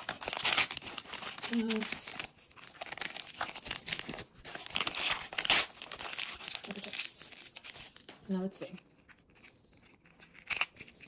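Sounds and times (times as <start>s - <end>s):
plastic wrappers crinkling and tearing: 0.0s - 11.0s.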